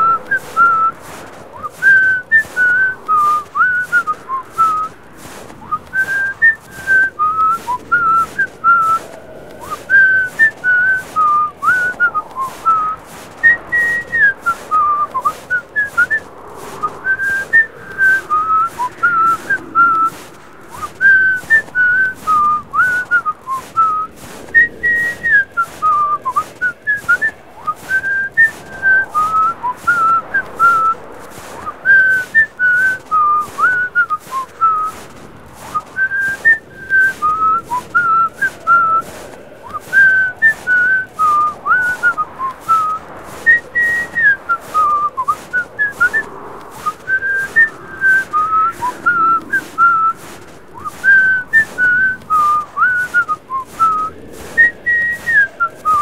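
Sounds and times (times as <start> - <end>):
person whistling a bouncy tune: 0.0 - 56.0.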